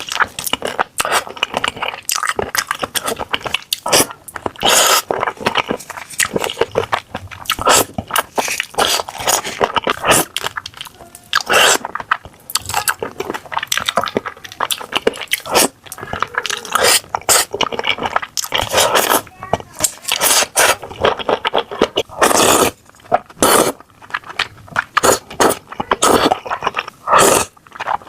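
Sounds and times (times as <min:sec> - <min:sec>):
person chewing and crunching: 0:00.0 - 0:28.0.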